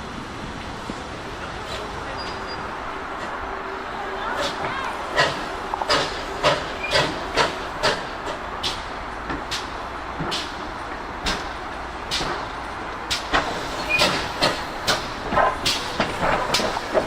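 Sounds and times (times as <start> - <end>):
steam locomotive hissing and chuffing: 0.0 - 17.0.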